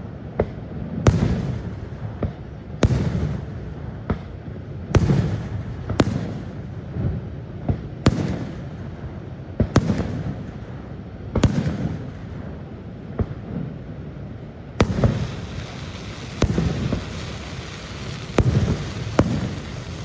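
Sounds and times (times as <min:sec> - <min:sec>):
fireworks bursting with bangs: 0:00.1 - 0:20.0.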